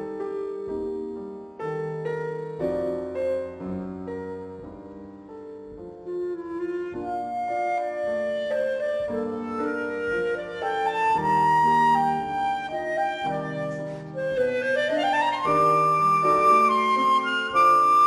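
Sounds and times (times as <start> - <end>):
clarinet melody: 0.0 - 18.0
piano accompaniment: 0.0 - 18.0.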